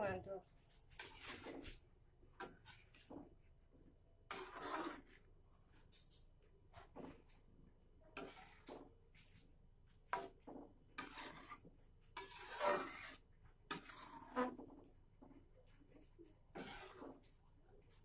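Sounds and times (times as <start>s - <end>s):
utensil stirring and scraping in pan: 0.0s - 18.0s.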